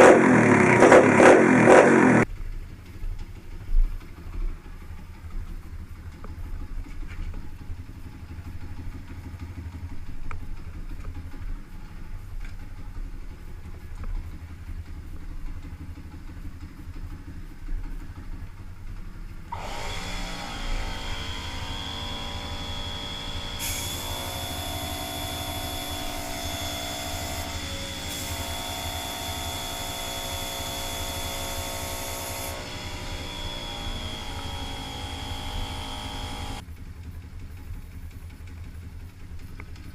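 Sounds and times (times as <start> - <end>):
motorbike engine idling and revving: 0.0 - 39.9.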